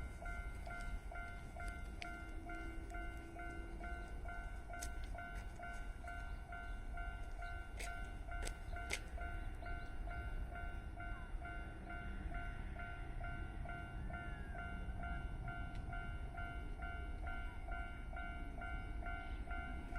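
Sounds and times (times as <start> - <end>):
electric train rumble: 0.0 - 19.9.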